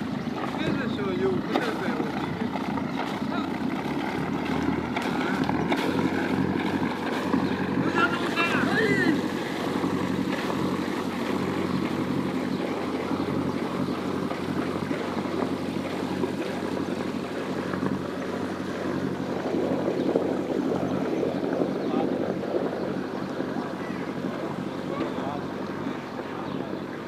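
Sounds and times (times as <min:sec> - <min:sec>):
boat engine humming: 0:00.0 - 0:27.0
water noise: 0:00.0 - 0:27.0
wind noise: 0:00.0 - 0:27.0.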